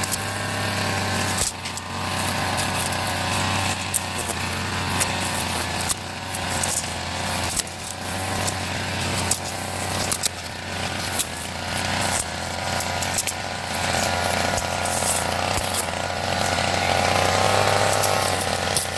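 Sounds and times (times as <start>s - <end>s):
brush cutter engine cutting grass: 0.0s - 18.9s.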